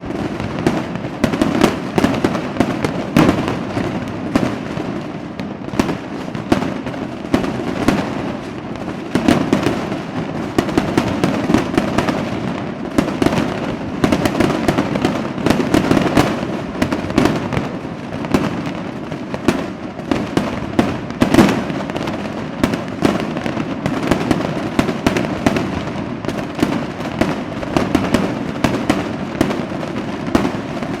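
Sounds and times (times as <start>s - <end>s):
fireworks bangs and crackling: 0.0s - 31.0s
loud firework booms: 0.0s - 31.0s.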